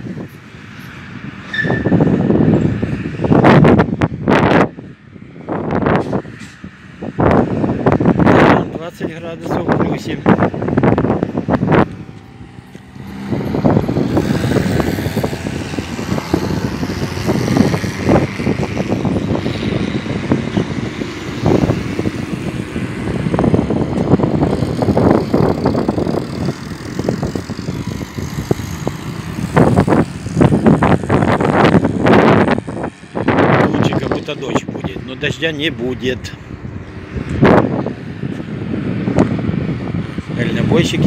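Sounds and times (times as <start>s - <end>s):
cars passing on highway: 0.0s - 41.0s
wind buffeting microphone: 0.0s - 41.0s.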